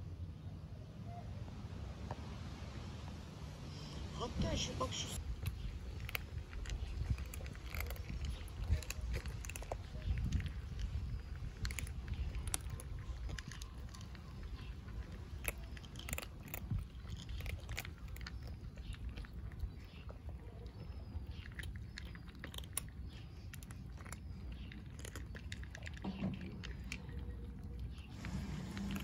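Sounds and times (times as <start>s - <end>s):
cats crunching dry kibble: 5.2s - 29.0s.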